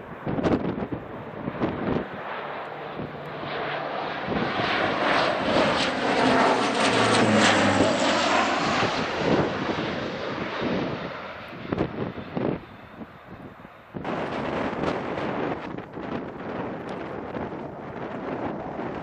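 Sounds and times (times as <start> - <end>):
low-flying aircraft passing: 0.0 - 19.0
wind gusting on microphone: 0.0 - 19.0.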